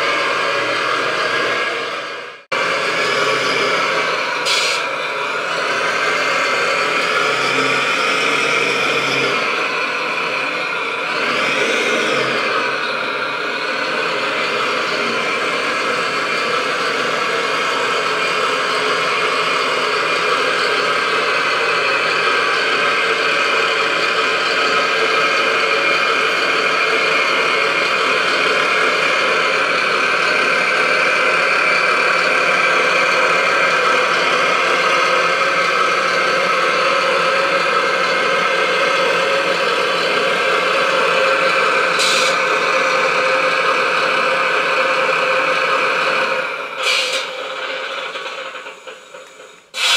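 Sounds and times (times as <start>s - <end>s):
radio-controlled truck drone: 0.0s - 49.9s.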